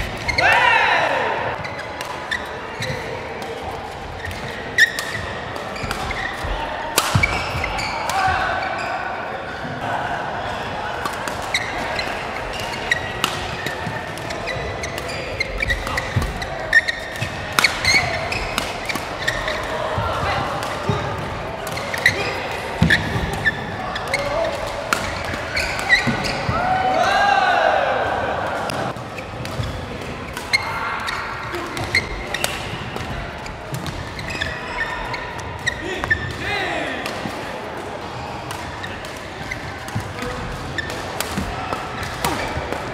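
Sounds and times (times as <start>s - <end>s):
racket hitting shuttlecock: 1.5s - 8.4s, 10.9s - 27.0s, 28.6s - 36.4s, 37.0s - 42.9s
shoes squeaking on court: 1.5s - 9.7s, 11.3s - 21.0s, 21.6s - 27.0s, 28.8s - 36.8s, 38.6s - 42.9s.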